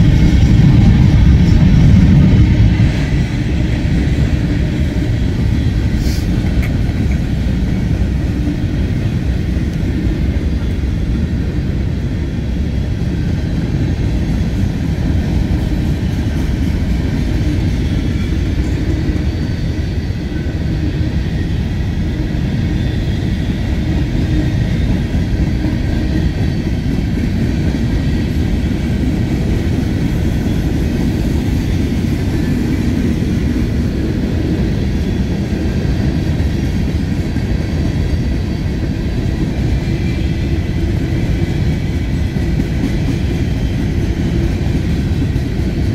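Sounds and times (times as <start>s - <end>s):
freight train cars rumbling: 0.0s - 45.9s.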